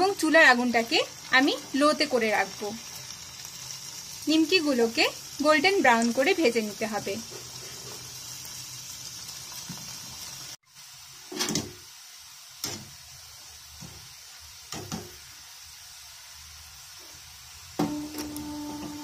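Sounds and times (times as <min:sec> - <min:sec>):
dough sizzling in hot oil: 0:00.0 - 0:19.0.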